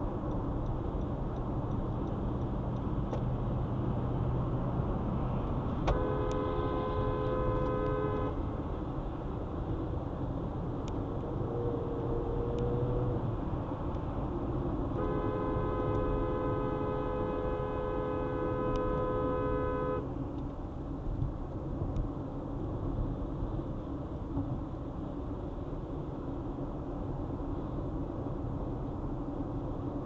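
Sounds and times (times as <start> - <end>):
traffic road noise: 0.0 - 30.0.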